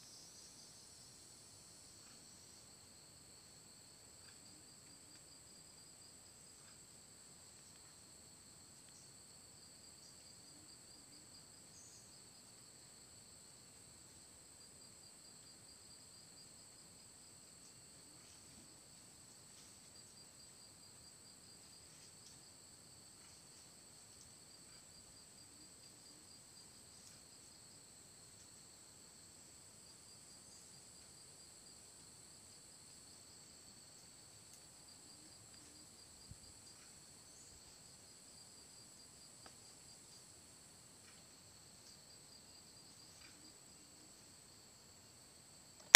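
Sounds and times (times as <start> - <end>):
faint insect chirps: 0.0 - 45.9
insects droning: 0.0 - 45.9.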